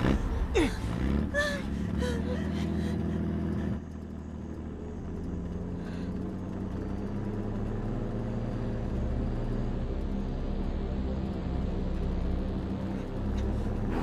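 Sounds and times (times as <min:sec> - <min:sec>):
jeep engine running: 0:00.0 - 0:14.0.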